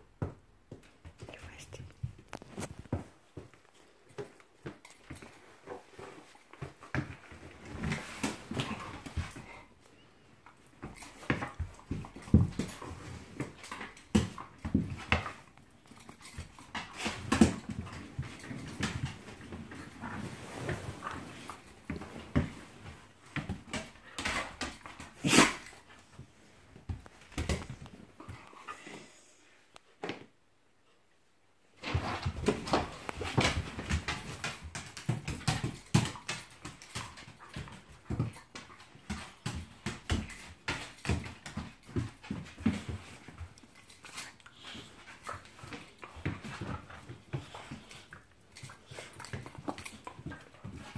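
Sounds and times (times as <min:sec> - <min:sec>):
dogs scuffling: 0:00.7 - 0:28.9, 0:31.8 - 0:50.9.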